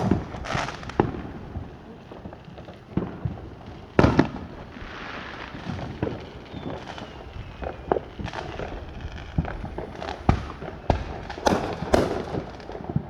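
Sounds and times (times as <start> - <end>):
descending firework whistle: 0.0 - 13.0
fireworks bangs and pops: 0.0 - 13.0.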